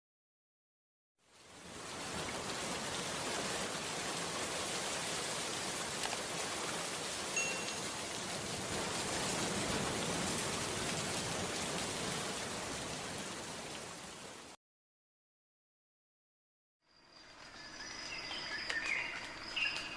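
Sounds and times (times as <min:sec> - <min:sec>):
rain-like hiss: 0:01.2 - 0:14.6, 0:16.9 - 0:19.9.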